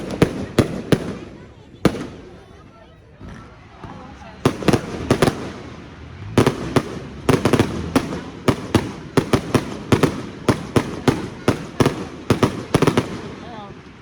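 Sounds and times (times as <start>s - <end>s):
fireworks banging: 0.0s - 14.0s.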